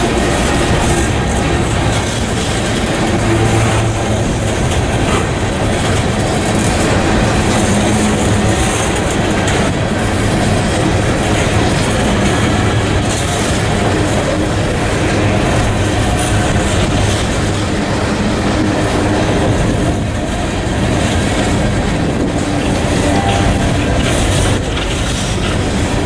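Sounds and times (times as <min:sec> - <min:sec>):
steel wheels running on rails: 0:00.0 - 0:26.0.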